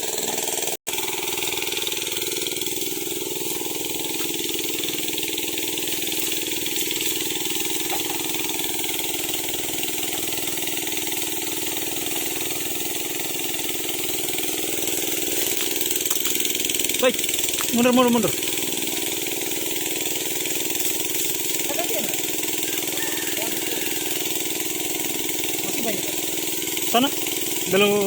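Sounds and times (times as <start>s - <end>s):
sprayer engine running: 0.0s - 28.0s.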